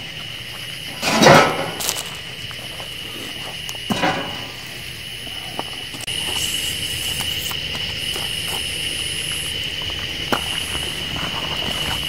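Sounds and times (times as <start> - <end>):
campfire crackles: 0.0 - 12.0
insects buzzing: 0.0 - 12.0
shrill insect trill: 0.0 - 12.0.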